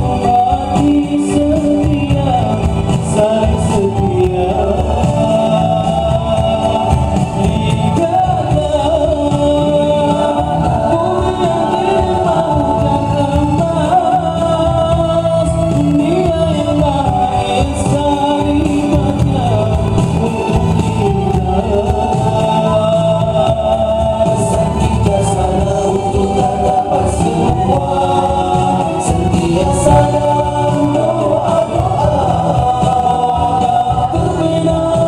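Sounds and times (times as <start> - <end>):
men singing in harmony: 0.0 - 35.0
low-pitched undertone: 1.9 - 33.4.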